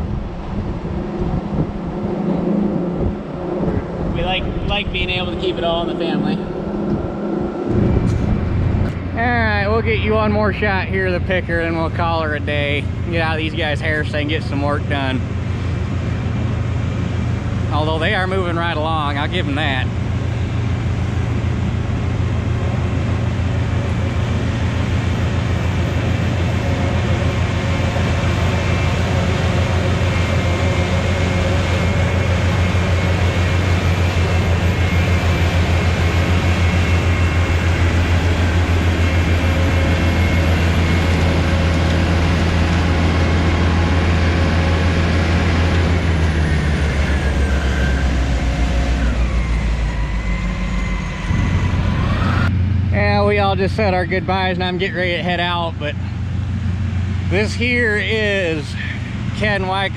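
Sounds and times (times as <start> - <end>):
harvester engine running: 0.0 - 59.9
picking machinery noise: 0.2 - 59.9.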